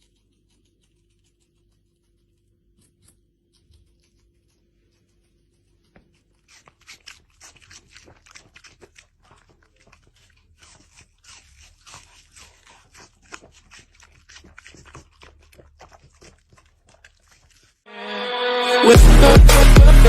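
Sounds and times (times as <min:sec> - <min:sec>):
animal chewing crunchy food: 0:00.0 - 0:17.9.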